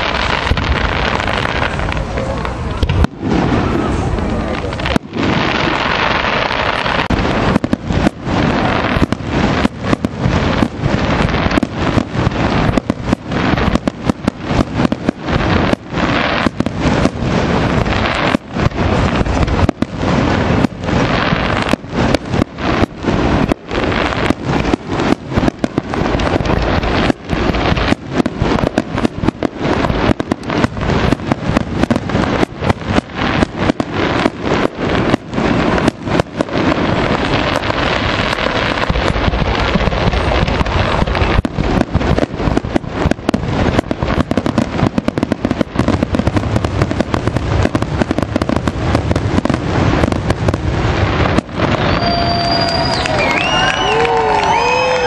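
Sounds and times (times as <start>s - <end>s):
fireworks shells bursting: 0.0s - 55.0s.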